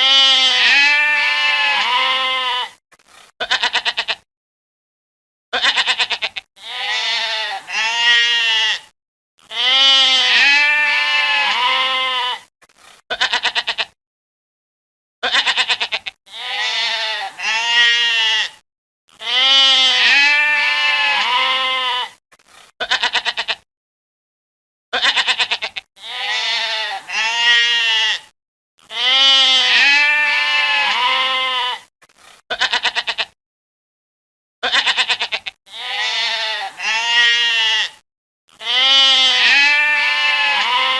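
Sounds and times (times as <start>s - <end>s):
goat bleating: 0.0s - 2.8s, 3.4s - 4.3s, 5.6s - 12.5s, 13.1s - 14.0s, 15.2s - 22.2s, 22.8s - 23.6s, 25.0s - 31.9s, 32.5s - 33.4s, 34.6s - 40.9s.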